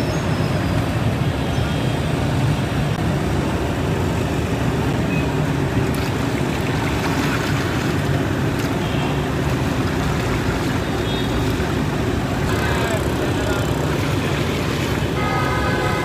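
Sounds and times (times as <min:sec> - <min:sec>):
roadside traffic rumble: 0:00.0 - 0:16.0.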